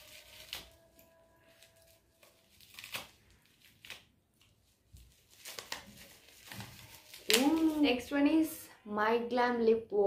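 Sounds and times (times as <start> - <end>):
sharp bubble wrap crackles: 0.0 - 8.4
bubble wrap rustling: 0.0 - 8.5.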